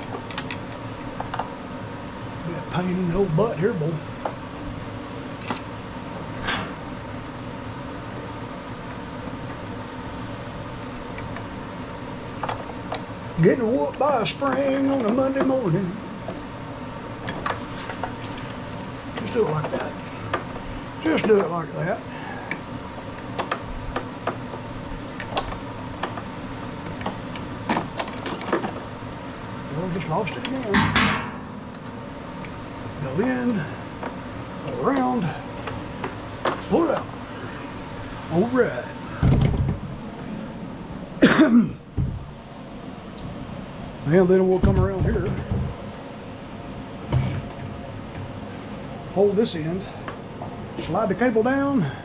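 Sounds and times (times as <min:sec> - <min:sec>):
fan-like hum: 0:00.0 - 0:52.0.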